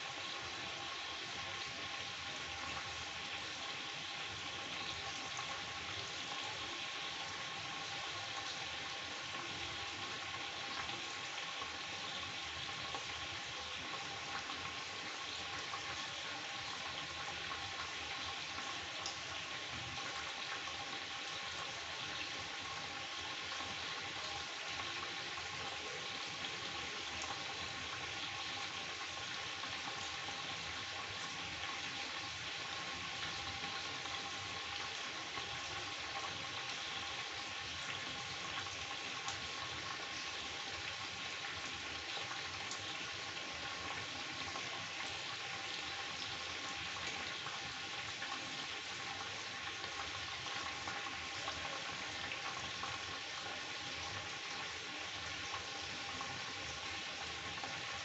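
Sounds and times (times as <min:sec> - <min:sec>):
chicken sizzling in a pan: 0:00.0 - 0:58.0.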